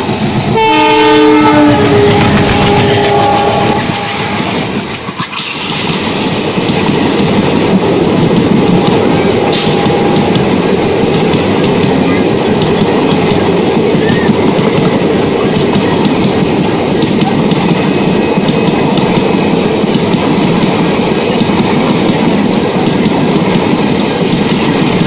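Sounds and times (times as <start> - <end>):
train coaches rushing past: 0.0 - 25.0
wheels clickety-clack on rail: 0.0 - 25.0.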